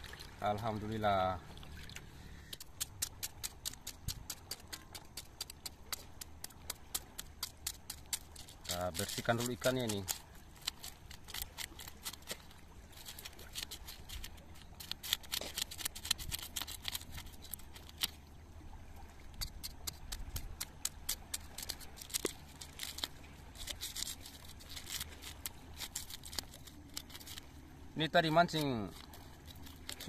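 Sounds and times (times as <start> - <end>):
low steady rumble: 0.0 - 30.0
knife scraping fish scales: 2.3 - 18.2, 19.3 - 27.6, 28.2 - 30.0.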